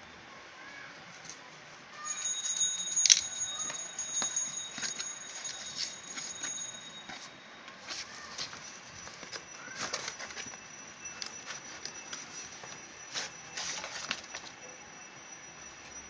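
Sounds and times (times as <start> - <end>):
thin high ringing tone: 1.9 - 16.0.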